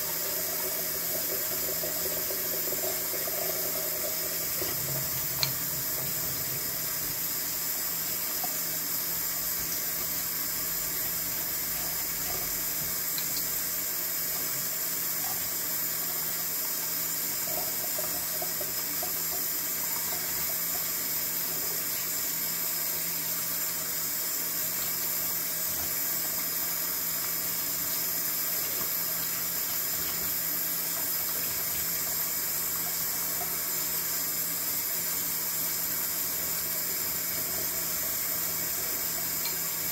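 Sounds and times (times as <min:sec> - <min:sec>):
faucet running into metal sink: 0:00.0 - 0:39.9.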